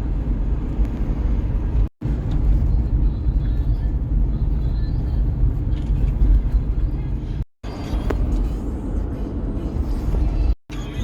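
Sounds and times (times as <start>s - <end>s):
road vehicle rumble: 0.0s - 11.0s.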